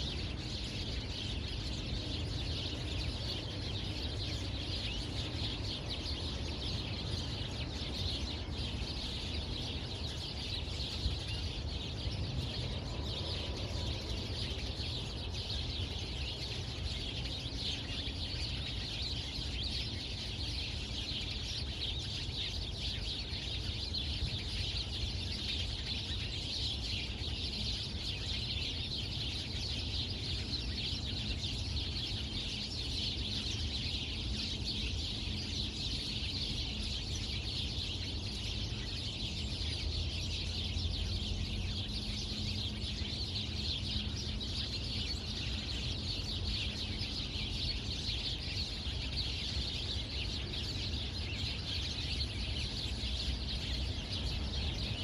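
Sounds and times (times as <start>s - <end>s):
many birds chirping: 0.0s - 55.0s.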